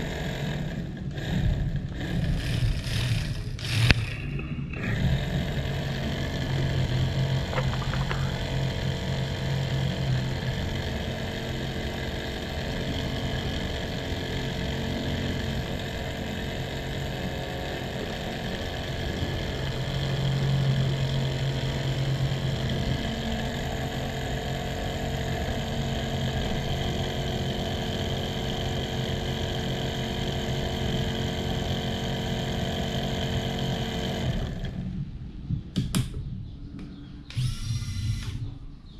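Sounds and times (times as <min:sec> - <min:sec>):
model tractor motor whine: 0:00.0 - 0:35.2, 0:37.3 - 0:38.6.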